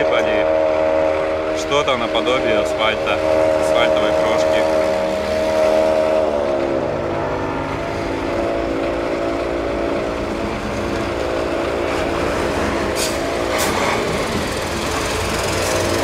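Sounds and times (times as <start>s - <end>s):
machinery engine running: 0.0s - 16.0s.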